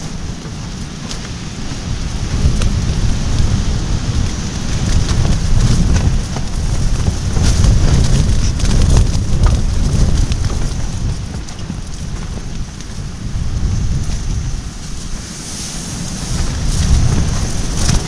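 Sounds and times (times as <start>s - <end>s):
gusty wind buffeting microphone: 0.0s - 18.0s.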